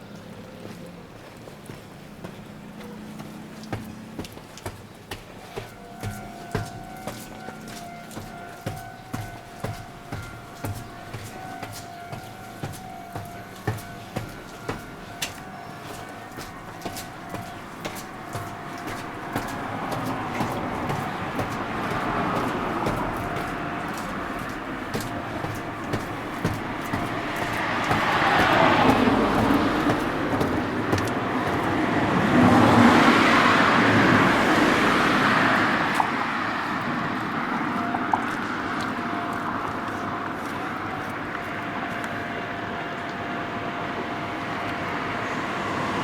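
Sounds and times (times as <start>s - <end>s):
road noise: 0.0s - 46.0s
vehicles passing: 0.0s - 46.0s.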